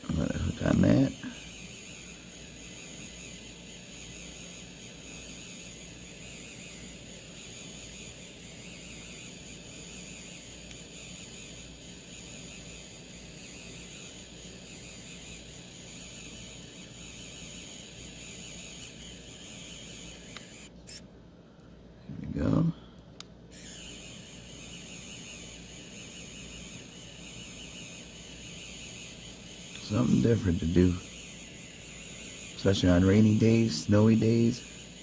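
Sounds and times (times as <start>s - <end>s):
printing pen motor and fan whirring: 0.0s - 21.1s, 23.5s - 35.0s.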